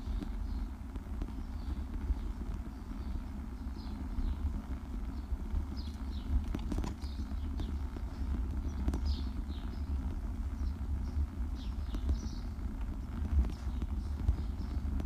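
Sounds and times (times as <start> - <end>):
bicycle rolling over brick paving: 0.1 - 15.0.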